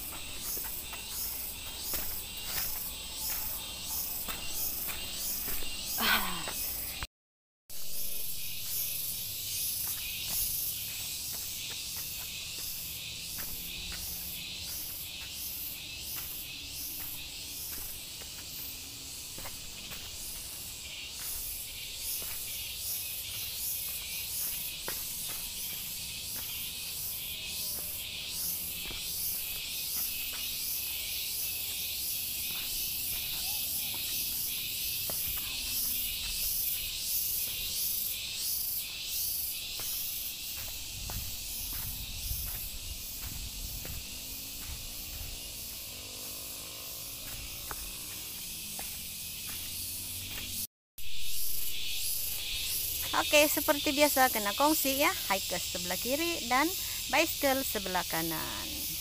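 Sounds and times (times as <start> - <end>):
footsteps on dirt trail: 0.0 - 7.1, 7.8 - 50.7
insects buzzing: 0.0 - 7.1, 7.7 - 59.0.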